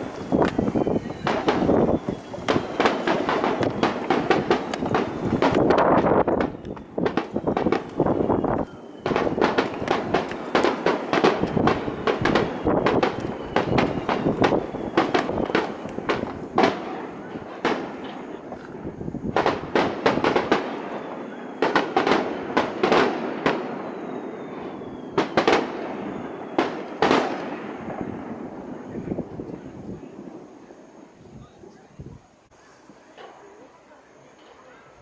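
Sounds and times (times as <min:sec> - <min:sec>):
firework shells bursting: 0:00.0 - 0:31.4.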